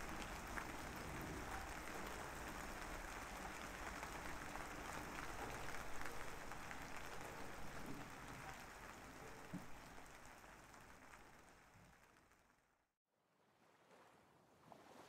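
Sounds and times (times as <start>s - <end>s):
rain pattering: 0.0s - 12.9s.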